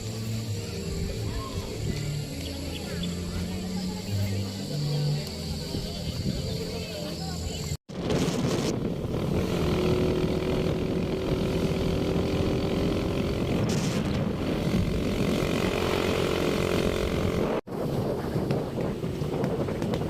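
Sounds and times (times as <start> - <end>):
motorbike engine running: 0.0 - 17.7
wind noise on microphone: 0.0 - 20.0.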